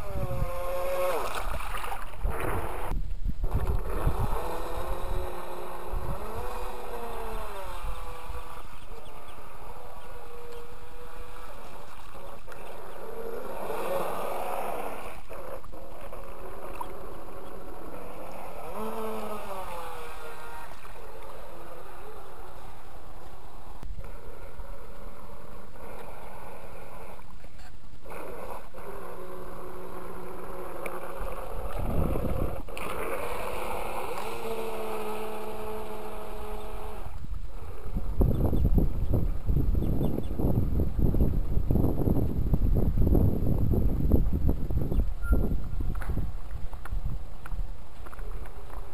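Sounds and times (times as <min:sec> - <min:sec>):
model boat motor whining: 0:00.0 - 0:46.4.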